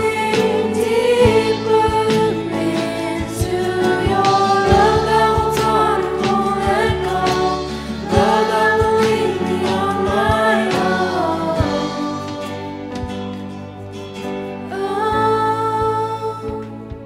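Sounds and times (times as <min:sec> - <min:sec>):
women singing together: 0:00.0 - 0:13.2, 0:14.7 - 0:16.9
instrumental accompaniment: 0:00.0 - 0:17.0.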